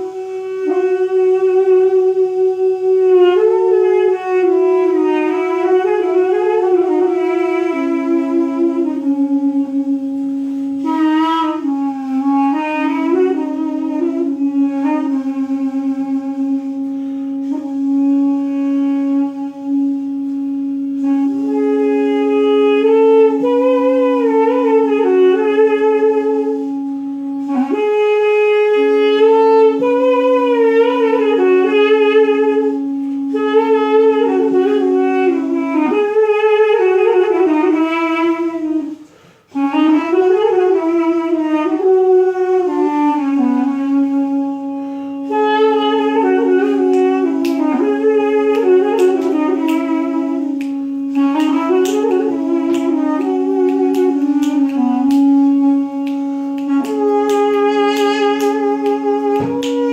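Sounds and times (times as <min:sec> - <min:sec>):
double-reed wind melody: 0:00.0 - 0:59.9
wind instrument drone: 0:00.0 - 0:59.9.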